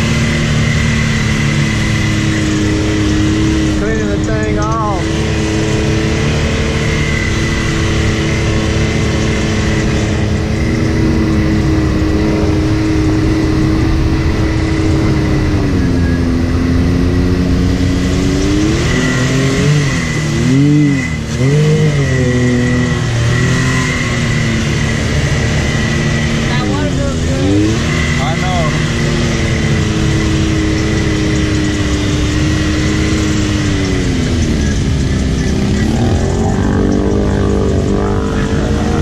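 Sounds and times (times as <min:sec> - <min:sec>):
engine running under load: 0:00.0 - 0:39.0.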